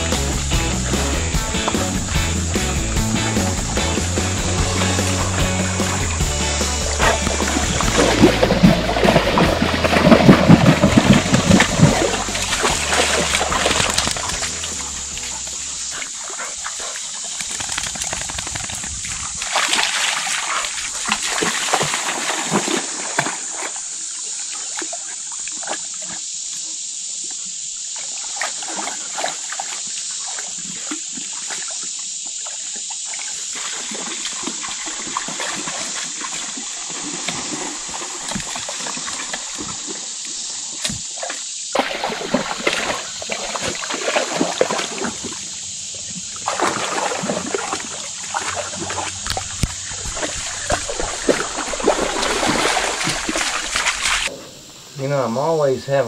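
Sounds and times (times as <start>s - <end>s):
dog splashing in water: 0.0s - 26.2s, 28.0s - 54.3s
flowing water rushing: 0.0s - 26.2s, 27.8s - 54.3s.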